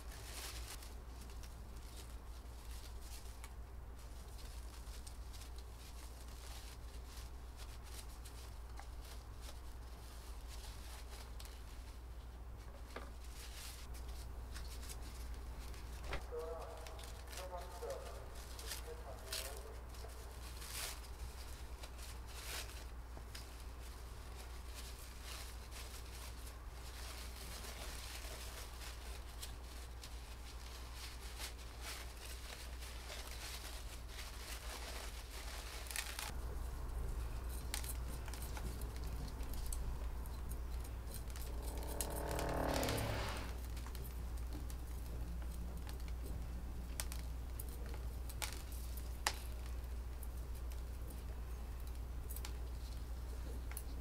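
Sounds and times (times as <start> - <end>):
paper rustling and crinkling: 0.0 - 54.0
steady low hum: 0.0 - 54.0.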